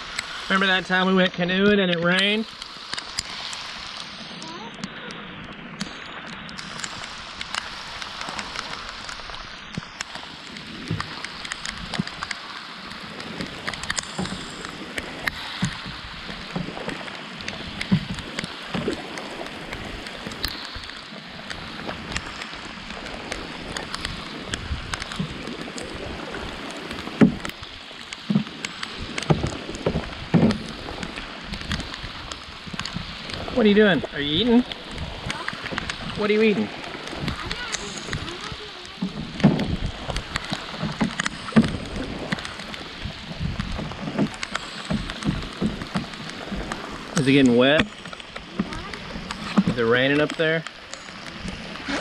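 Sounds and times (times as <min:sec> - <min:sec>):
rain on a river and canoe: 0:00.0 - 0:52.0.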